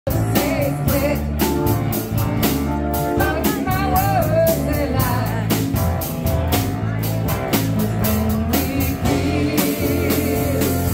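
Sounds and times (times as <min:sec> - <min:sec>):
drum kit with cymbals: 0:00.1 - 0:10.9
electric keyboard: 0:00.1 - 0:10.9.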